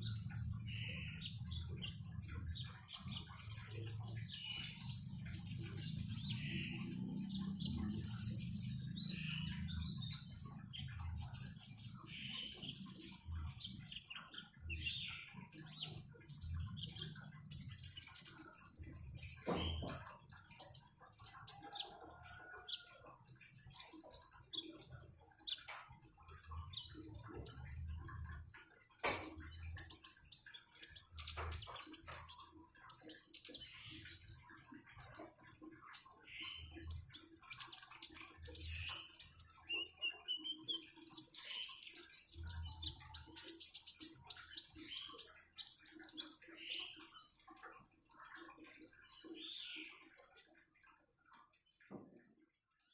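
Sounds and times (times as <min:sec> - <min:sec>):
songbird chirping and trilling: 0:00.0 - 0:52.9.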